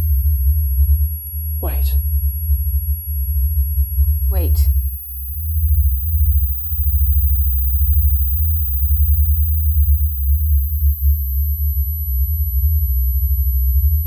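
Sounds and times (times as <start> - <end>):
faint high whine: 0.0 - 12.0
deep low droning hum: 0.0 - 14.0.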